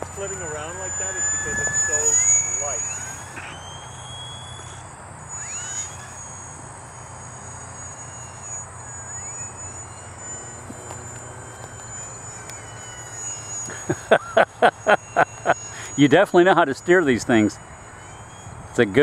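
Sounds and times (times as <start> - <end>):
model plane motor whine: 0.0 - 19.0.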